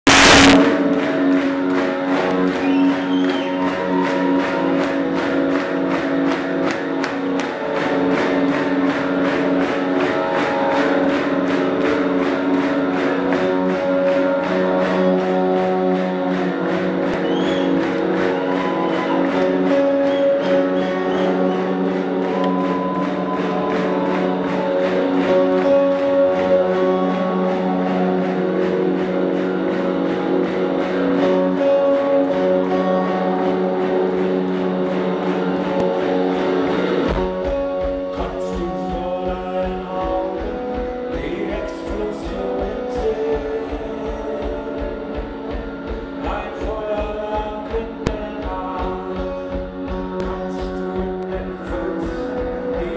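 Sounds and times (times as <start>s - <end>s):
drums steady beat: 0.0s - 52.9s
electric guitars: 0.0s - 52.9s.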